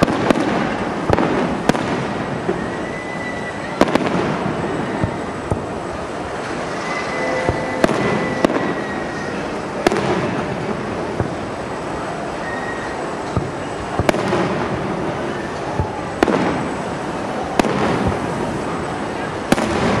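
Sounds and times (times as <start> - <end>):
firework bangs: 0.0 - 20.0
firework rumble and crackle: 0.0 - 20.0.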